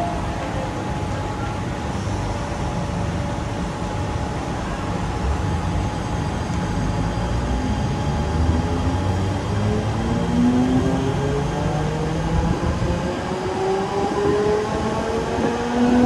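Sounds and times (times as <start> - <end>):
faint rising whine: 0.0 - 16.0.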